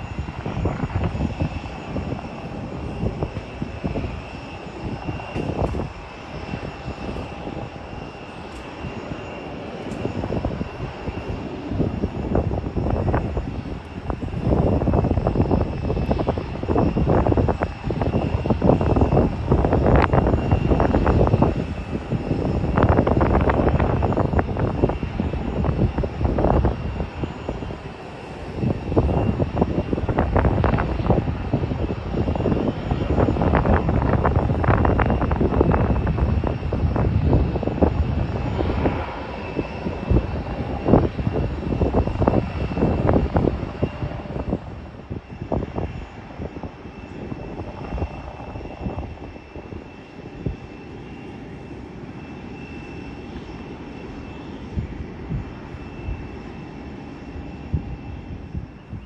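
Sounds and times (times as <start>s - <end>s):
jet engines whining: 0.0s - 59.0s
wind buffeting microphone: 0.0s - 59.0s.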